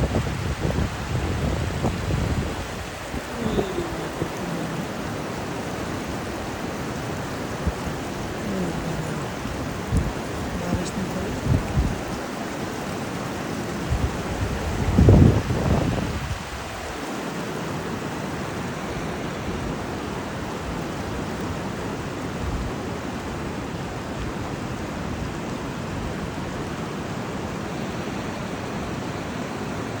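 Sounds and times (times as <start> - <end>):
falling rain: 0.0 - 30.0
mountain river rushing: 0.0 - 30.0.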